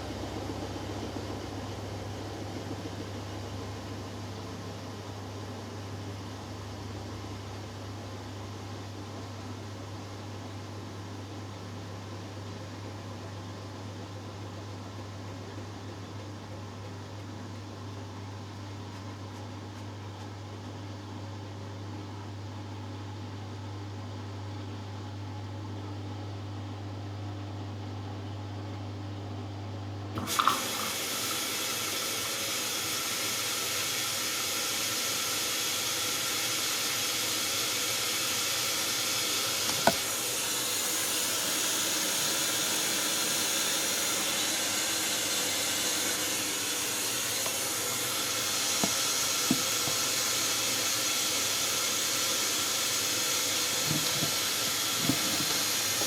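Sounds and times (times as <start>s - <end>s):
washing machine low hum: 0.0s - 56.0s.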